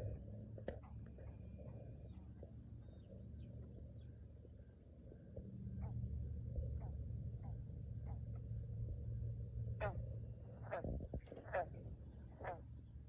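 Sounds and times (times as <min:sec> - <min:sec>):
frogs trilling: 0:00.0 - 0:13.0.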